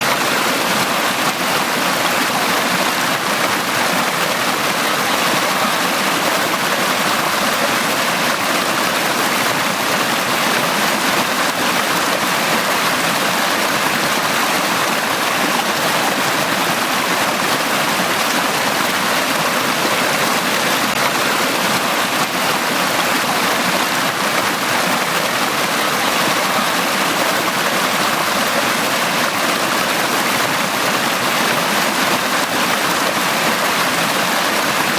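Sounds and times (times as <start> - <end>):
brook water flowing over stones: 0.0 - 34.9.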